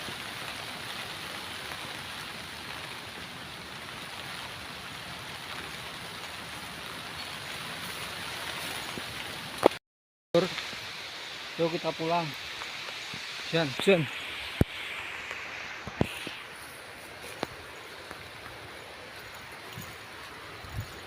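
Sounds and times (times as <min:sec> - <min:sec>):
steady rain falling: 0:00.0 - 0:09.8, 0:10.4 - 0:21.0.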